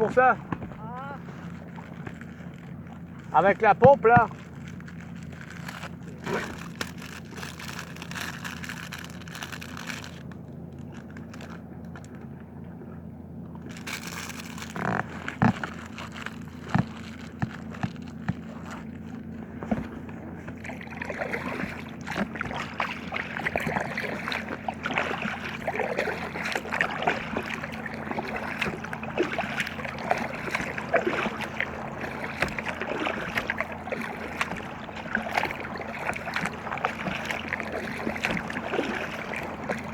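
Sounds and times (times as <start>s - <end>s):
paddle strokes: 0.0s - 39.9s
steady low hum: 0.0s - 39.9s
water sloshing against kayak: 0.0s - 39.9s.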